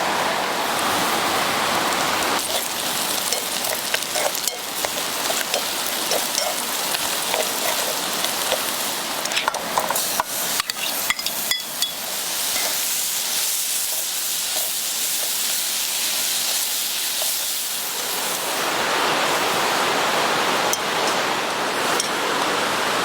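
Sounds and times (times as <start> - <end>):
food sizzling in a pan: 0.6 - 19.9.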